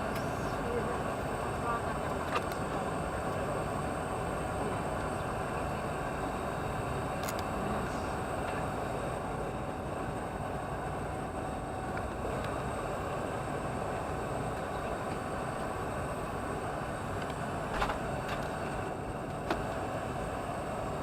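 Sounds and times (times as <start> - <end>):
aircraft cabin air hum and hiss: 0.0 - 21.0
mid-pitched whine: 0.0 - 21.0.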